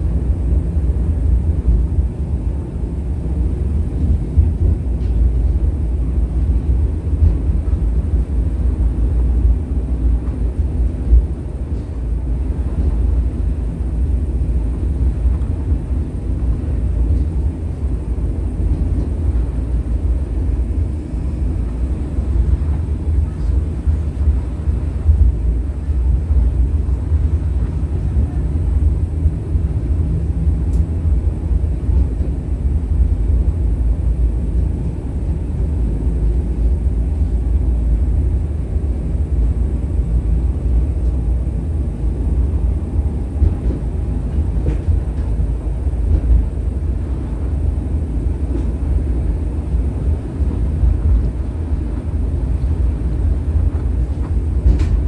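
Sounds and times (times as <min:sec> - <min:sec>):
tram rumbling from inside: 0:00.0 - 0:55.0.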